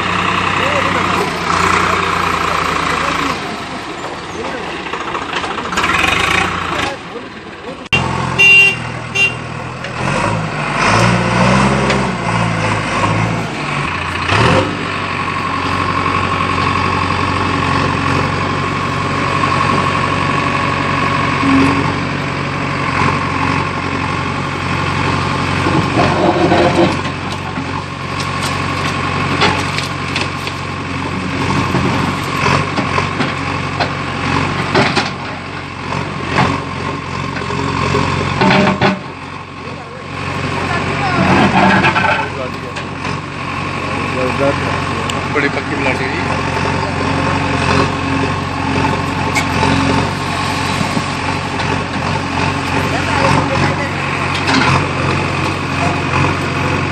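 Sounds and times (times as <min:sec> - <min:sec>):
heavy vehicle engine idling: 0:00.0 - 0:56.9.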